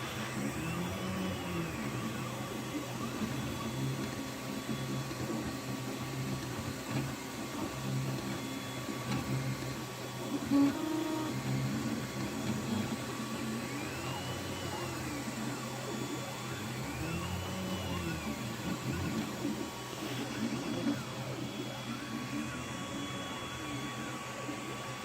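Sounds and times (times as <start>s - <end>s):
stepper motors whining: 0.0s - 25.0s.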